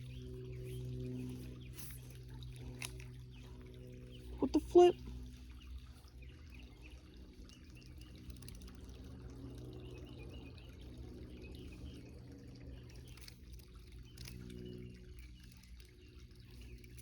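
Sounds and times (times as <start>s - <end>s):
creek water trickling: 0.0s - 17.0s.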